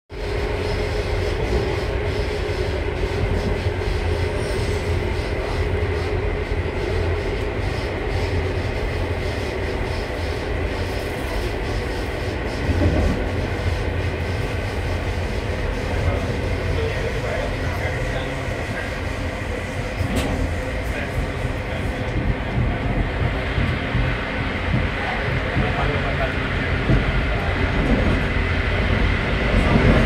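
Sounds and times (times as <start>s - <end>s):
train wheels rumbling on rails: 0.1s - 30.0s.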